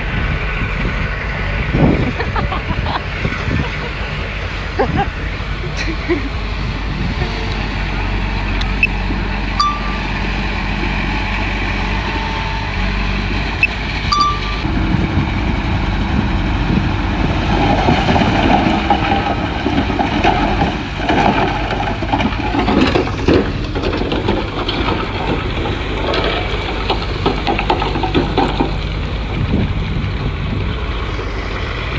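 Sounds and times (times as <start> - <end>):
bulldozer diesel engine under load: 0.0 - 31.9.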